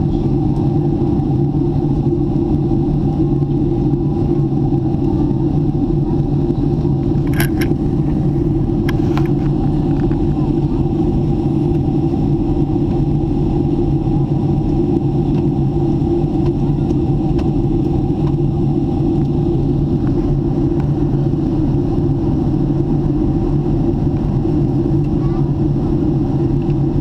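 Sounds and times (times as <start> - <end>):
jet engine drone and rushing air: 0.0 - 27.0
mid-pitched hum: 0.0 - 27.0.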